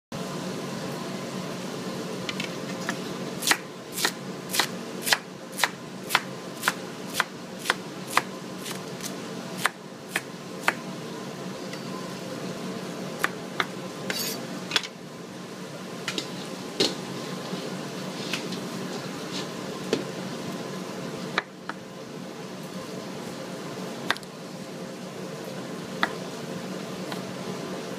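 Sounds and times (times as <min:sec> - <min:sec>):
fan hum: 0:00.1 - 0:27.9.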